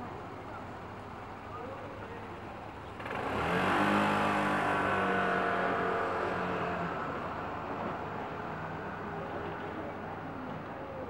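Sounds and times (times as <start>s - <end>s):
street background noise: 0.0s - 11.0s
vehicle engine: 0.0s - 11.0s.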